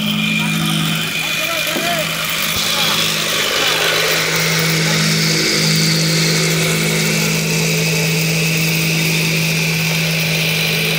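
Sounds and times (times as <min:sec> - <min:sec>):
machinery engine drone: 0:00.0 - 0:10.9.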